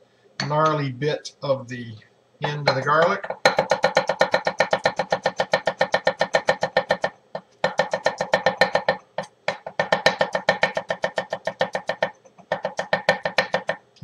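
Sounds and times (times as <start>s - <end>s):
knife chopping on wooden board: 2.4s - 13.8s.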